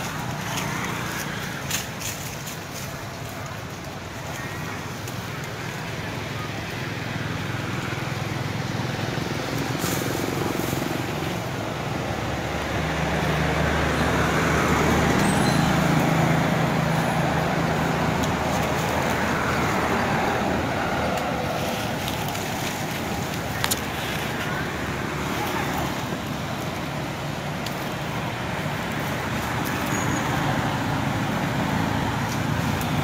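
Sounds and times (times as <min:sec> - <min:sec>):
motor vehicle passing: 0:00.0 - 0:33.0.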